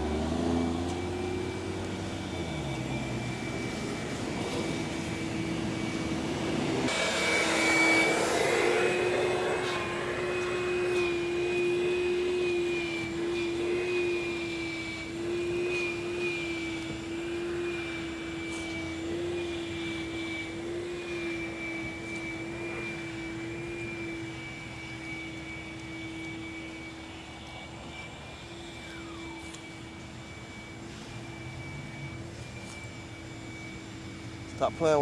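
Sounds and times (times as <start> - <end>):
car wash motor whine: 0.0 - 35.0.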